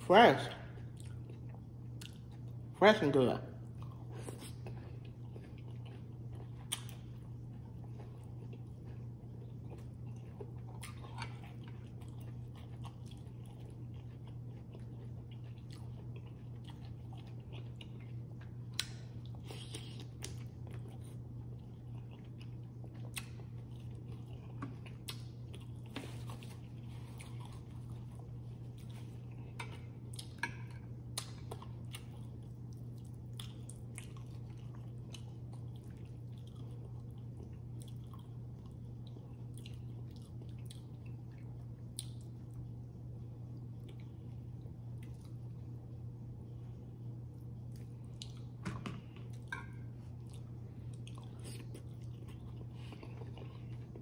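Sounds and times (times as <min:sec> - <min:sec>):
steady low hum: 0:00.0 - 0:54.0
chewing and biting food: 0:00.5 - 0:48.6, 0:49.2 - 0:54.0.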